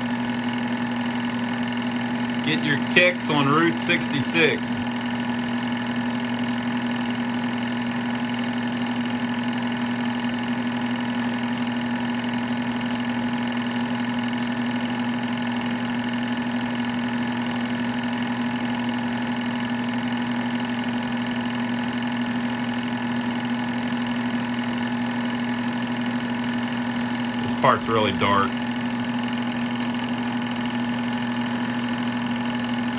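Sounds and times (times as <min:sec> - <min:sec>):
film projector humming: 0:00.0 - 0:32.9.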